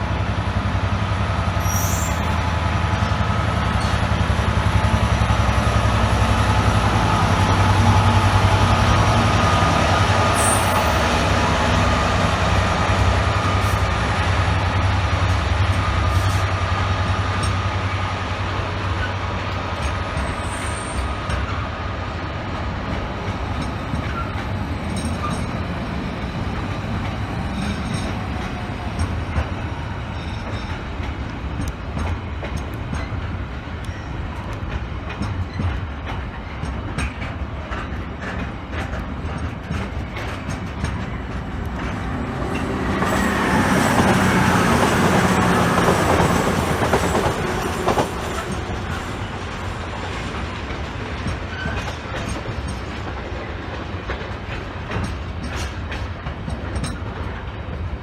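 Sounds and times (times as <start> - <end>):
train running past: 0.0 - 58.0.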